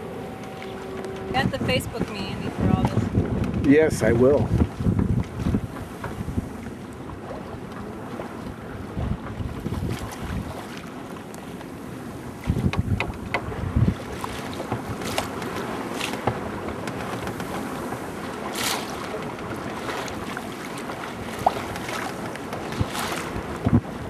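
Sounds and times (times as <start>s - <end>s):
wind buffeting microphone: 0.0s - 10.8s, 12.0s - 24.0s
water washing along hull: 0.0s - 24.0s.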